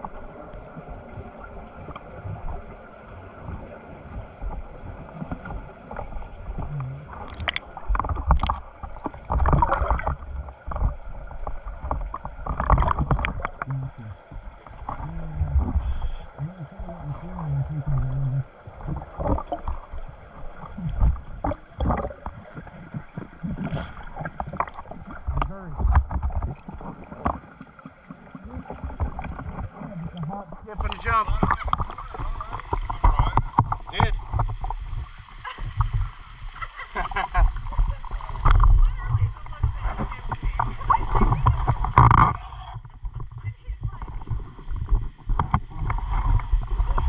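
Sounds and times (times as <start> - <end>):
bubbles rushing underwater: 0.0 - 47.0.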